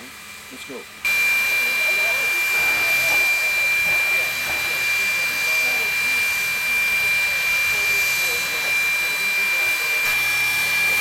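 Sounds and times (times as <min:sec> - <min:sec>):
steam locomotive hissing: 0:00.0 - 0:11.0
thin high whine: 0:01.1 - 0:11.0.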